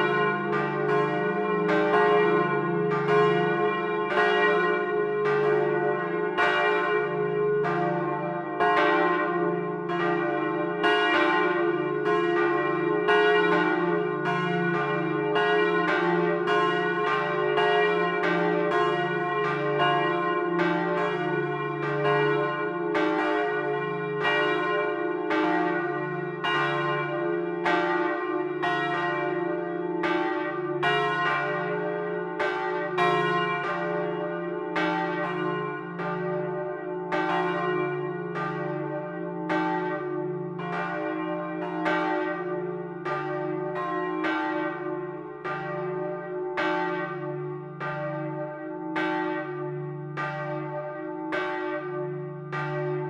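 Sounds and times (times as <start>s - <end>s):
church bells pealing: 0.0s - 53.0s.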